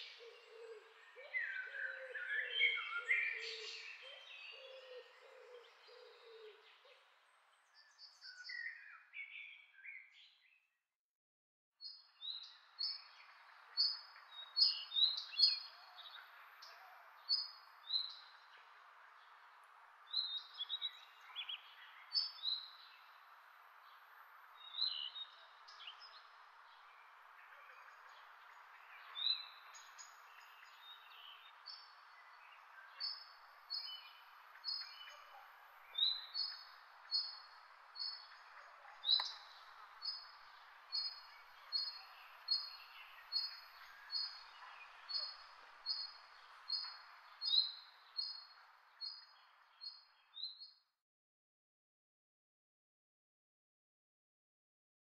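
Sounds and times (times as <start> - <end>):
soft steady hiss: 0.0 - 8.8, 12.1 - 50.3
bird chirping: 0.0 - 10.5, 11.8 - 50.8.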